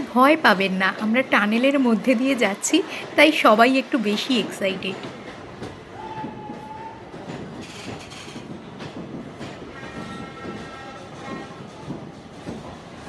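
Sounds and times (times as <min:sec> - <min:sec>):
train rumble in tunnel: 0:00.0 - 0:13.0
train wheels clattering on rails: 0:00.0 - 0:13.0.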